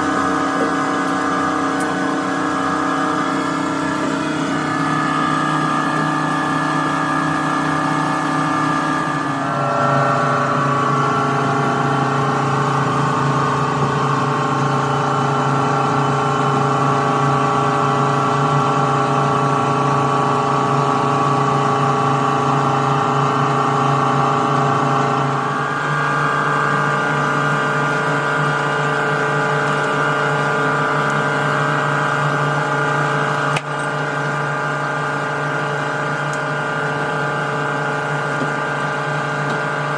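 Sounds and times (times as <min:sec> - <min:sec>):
mixing mill humming and whining: 0:00.0 - 0:39.9.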